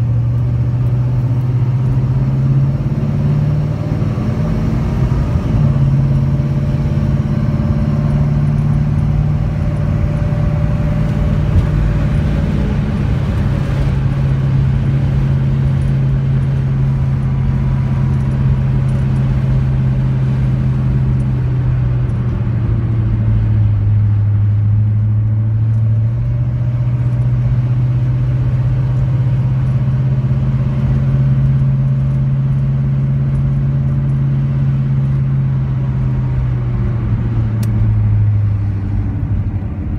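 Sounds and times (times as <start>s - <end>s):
car engine cruising: 0.0s - 39.9s
road noise: 0.0s - 39.9s.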